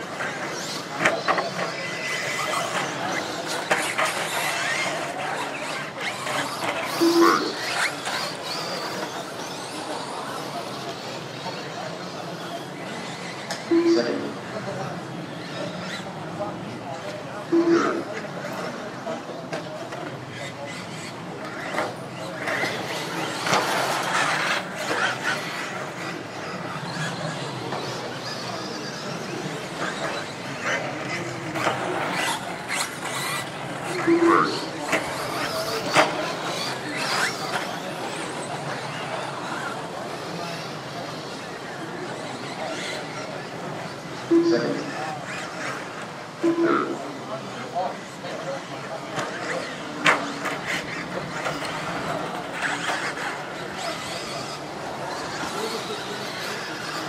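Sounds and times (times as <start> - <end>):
small electric motors whining: 0.0 - 13.7, 18.1 - 46.2, 47.7 - 57.0.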